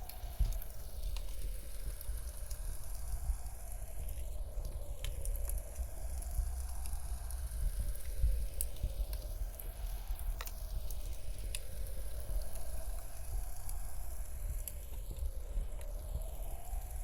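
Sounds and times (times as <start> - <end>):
blizzard wind rumble: 0.0 - 17.0
wood fire crackling and popping: 0.0 - 17.0.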